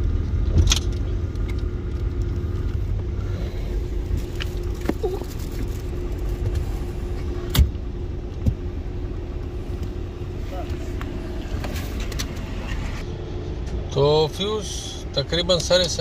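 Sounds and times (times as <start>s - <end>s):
low rumble with faint hum: 0.0s - 16.0s.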